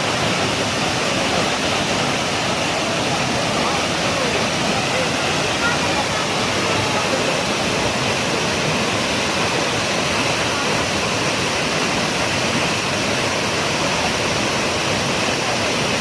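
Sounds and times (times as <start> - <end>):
waterfall pouring: 0.0 - 16.0.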